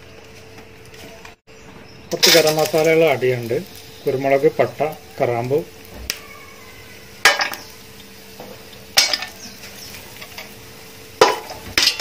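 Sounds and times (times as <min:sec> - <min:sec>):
spices sizzling in hot ghee: 0:02.0 - 0:12.0.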